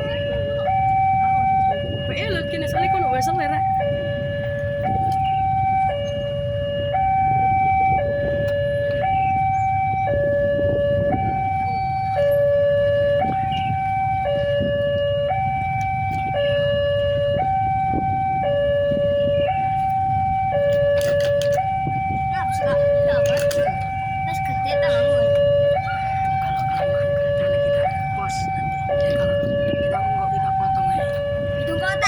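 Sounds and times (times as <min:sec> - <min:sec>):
two-tone electronic alarm: 0:00.0 - 0:32.0.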